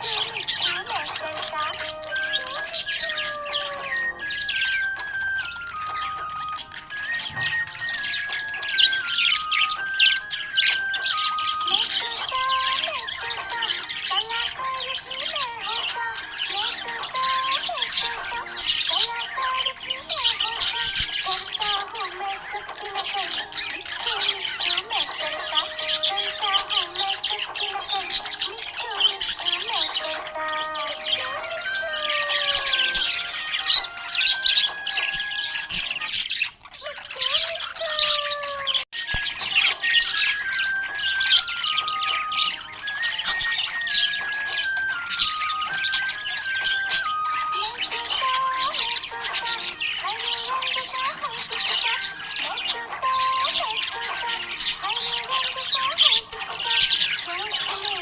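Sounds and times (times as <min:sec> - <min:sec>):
background music with held notes: 0:00.0 - 0:58.0
budgerigars chirping and squawking: 0:00.0 - 0:58.0.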